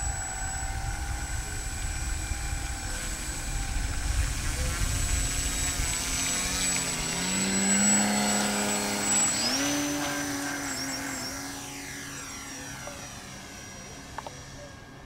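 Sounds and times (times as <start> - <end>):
electric propeller whining: 0.0 - 15.0.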